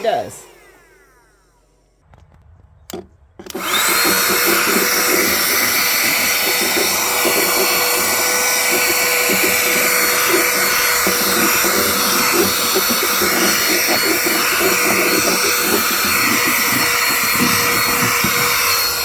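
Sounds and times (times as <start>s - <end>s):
vacuum cleaner motor whine: 0.0s - 2.0s, 3.4s - 19.0s
crackling and rattling: 2.0s - 19.0s.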